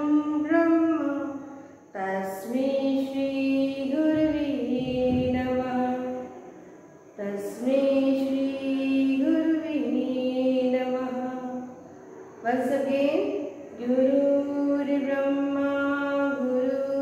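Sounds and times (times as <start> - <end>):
woman singing unaccompanied: 0.0 - 6.5, 7.1 - 17.0.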